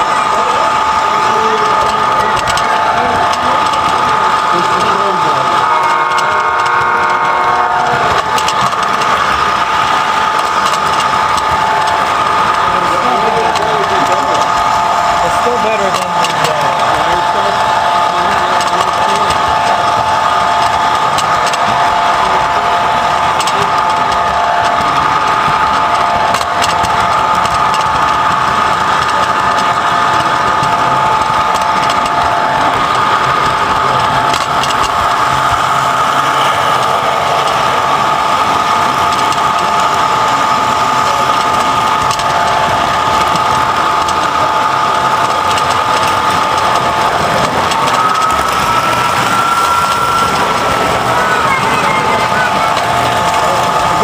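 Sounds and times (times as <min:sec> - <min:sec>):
toy train motor whine: 0:00.0 - 0:54.0
wheels rumbling on rails: 0:00.0 - 0:54.0.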